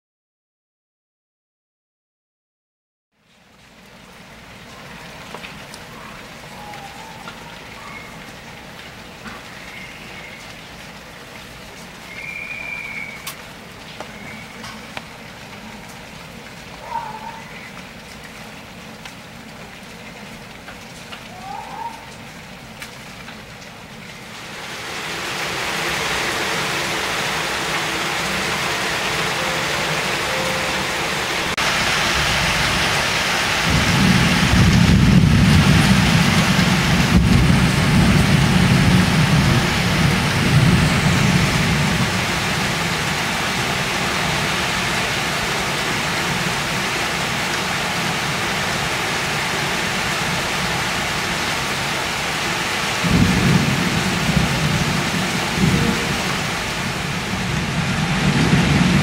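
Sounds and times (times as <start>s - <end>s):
heavy rain on leaves: 3.1s - 59.0s.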